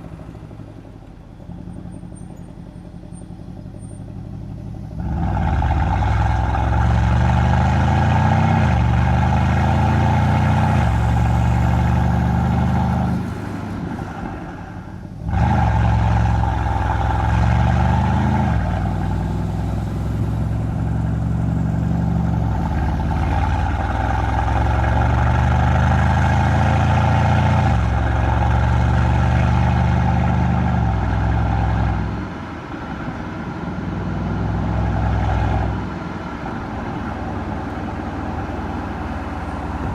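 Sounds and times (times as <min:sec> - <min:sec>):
car exhaust accelerating: 0:00.0 - 0:39.9.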